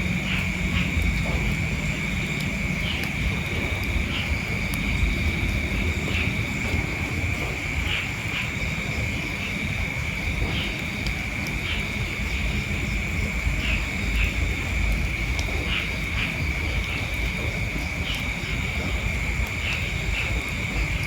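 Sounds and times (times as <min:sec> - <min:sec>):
insect trill: 0:00.0 - 0:21.0
wind rumble on microphone: 0:00.0 - 0:21.0.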